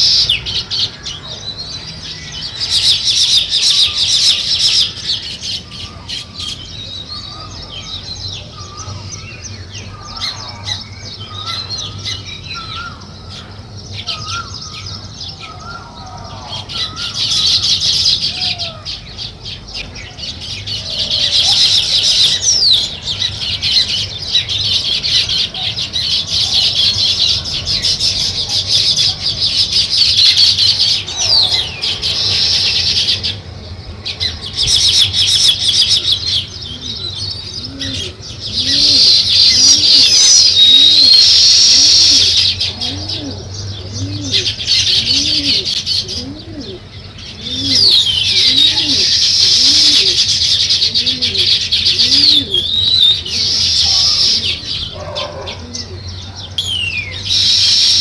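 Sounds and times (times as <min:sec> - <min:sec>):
low arching bird call: 0:00.0 - 0:58.0
sparrows chirping: 0:00.0 - 0:58.0.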